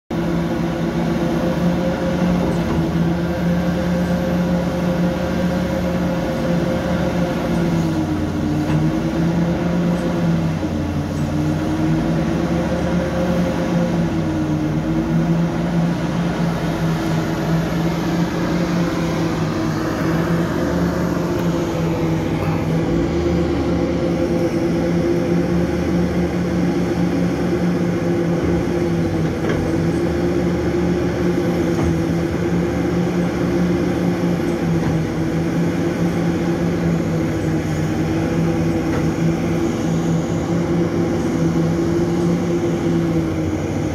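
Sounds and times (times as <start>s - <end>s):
excavator diesel engine under load: 0.1s - 43.9s.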